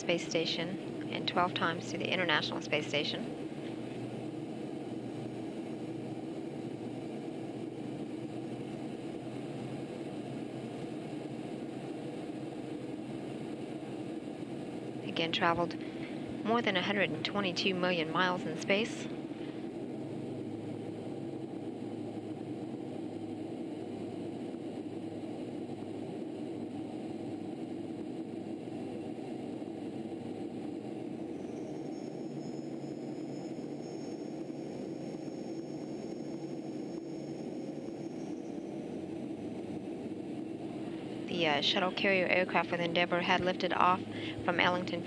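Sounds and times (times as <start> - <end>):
jet cockpit engine and airflow drone: 0.0 - 45.0.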